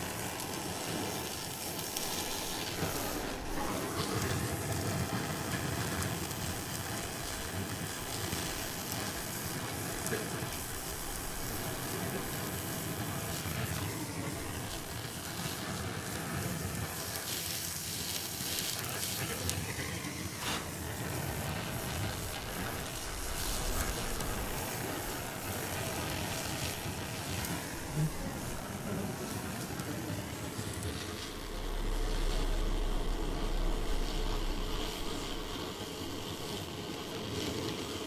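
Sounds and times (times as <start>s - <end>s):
torch flame hissing: 0.0s - 37.9s.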